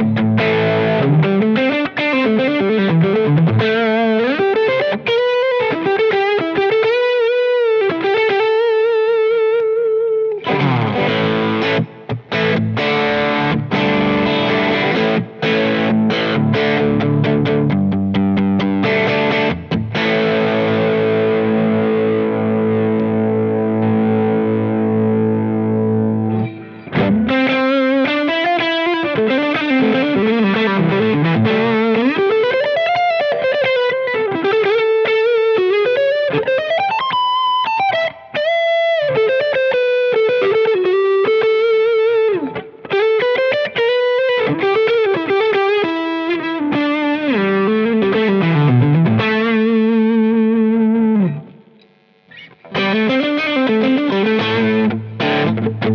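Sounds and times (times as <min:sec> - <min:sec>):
distorted electric guitar: 0:00.0 - 0:55.9.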